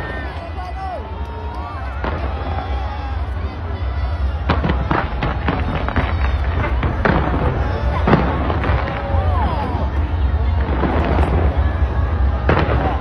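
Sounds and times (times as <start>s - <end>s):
fireworks cracks and bangs: 0.0s - 13.0s.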